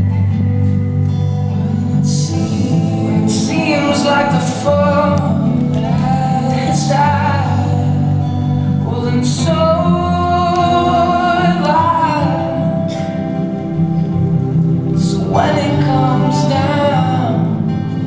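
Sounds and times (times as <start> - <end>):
steady musical accompaniment: 0.0 - 18.0
person singing long notes: 1.4 - 18.0.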